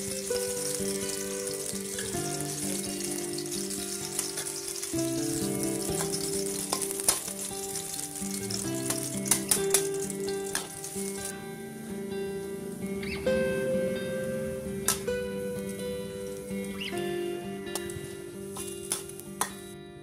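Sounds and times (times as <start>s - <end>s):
garlic sizzling in a wok: 0.0s - 19.8s.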